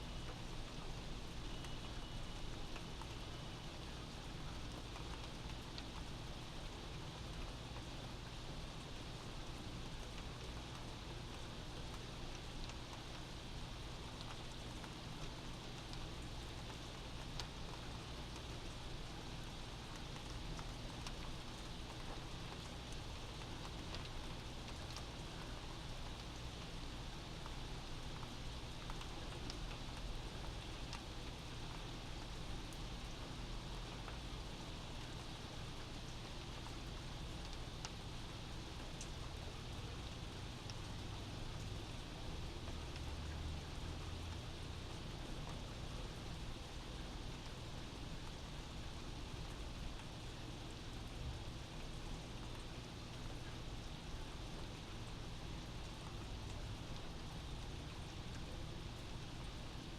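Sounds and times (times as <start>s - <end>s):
steady rain: 0.0s - 59.9s
water drips: 0.2s - 59.9s.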